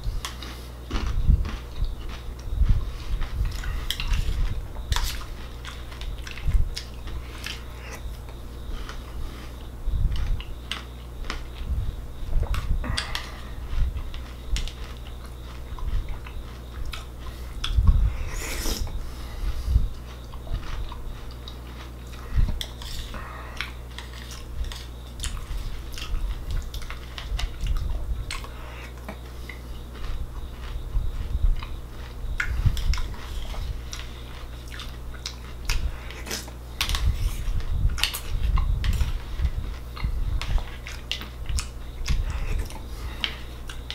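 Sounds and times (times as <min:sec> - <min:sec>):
chewing crunchy cereal: 0:00.1 - 0:43.9.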